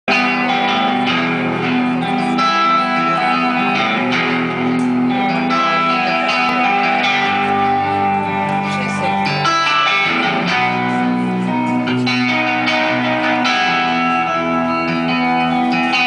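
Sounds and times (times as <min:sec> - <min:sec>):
live band guitar music: 0:00.0 - 0:16.0.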